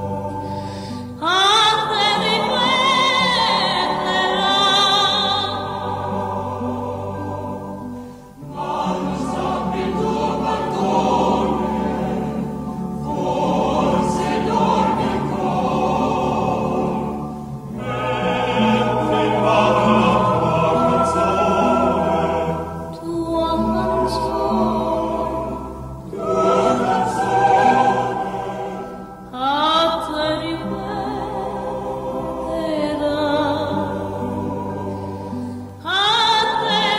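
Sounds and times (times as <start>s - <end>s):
choir singing held notes: 0.0s - 36.9s.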